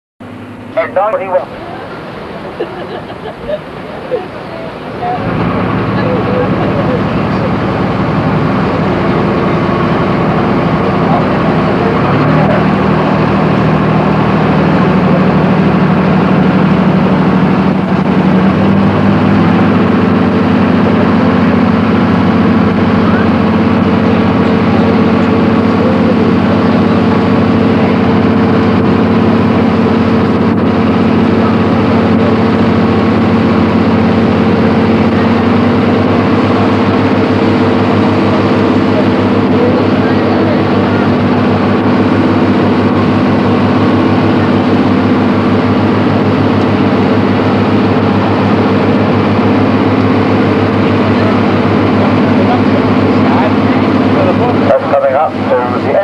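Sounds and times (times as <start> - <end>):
boat engine droning: 0.2 - 56.0.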